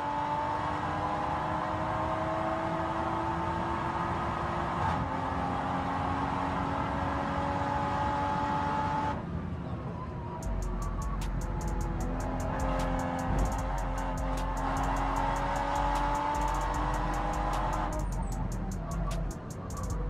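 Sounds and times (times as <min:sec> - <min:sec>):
car engine accelerating: 0:00.0 - 0:09.2, 0:10.4 - 0:20.0.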